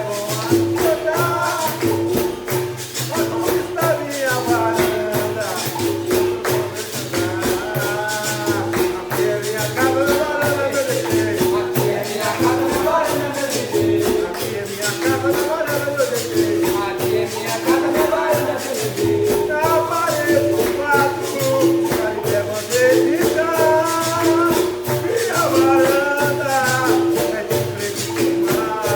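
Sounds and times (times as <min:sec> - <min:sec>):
berimbau tone: 0:00.0 - 0:28.9
pandeiro rhythm: 0:00.0 - 0:28.9
person singing: 0:00.0 - 0:28.9.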